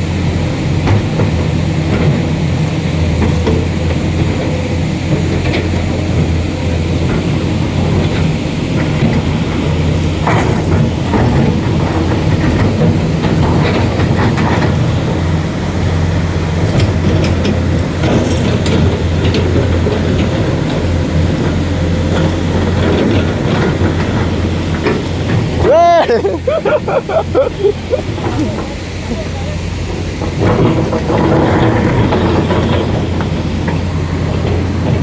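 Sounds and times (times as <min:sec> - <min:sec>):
vehicle engine humming: 0:00.0 - 0:35.0
knocks and rattles: 0:00.8 - 0:29.0, 0:29.6 - 0:35.0.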